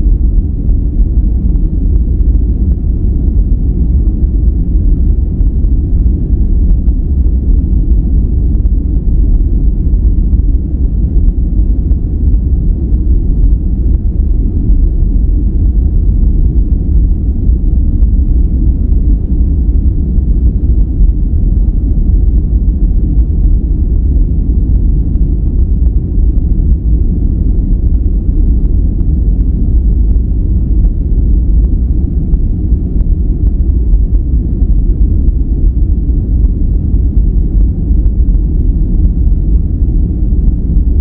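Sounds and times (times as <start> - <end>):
deep rumbling synthetic noise: 0.0 - 41.0.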